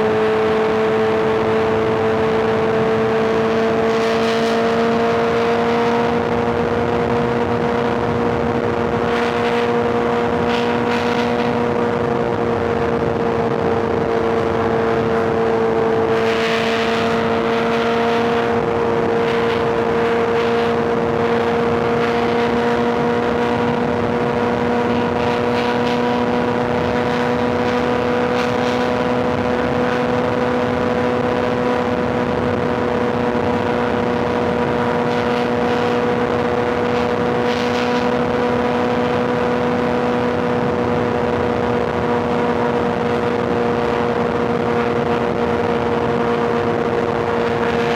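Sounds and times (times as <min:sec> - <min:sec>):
motorcycle engine cruising: 0:00.0 - 0:47.9
wind and road rush: 0:00.0 - 0:47.9.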